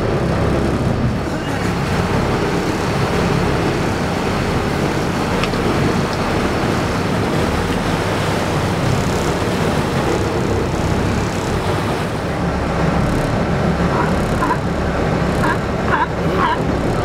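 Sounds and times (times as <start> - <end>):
boat engine running: 0.0 - 17.0
rushing wind: 0.0 - 17.0
water noise: 0.0 - 17.0.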